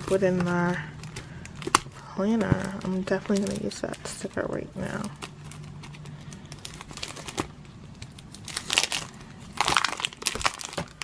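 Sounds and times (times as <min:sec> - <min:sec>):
sticker sheet crinkling: 0:00.0 - 0:11.0.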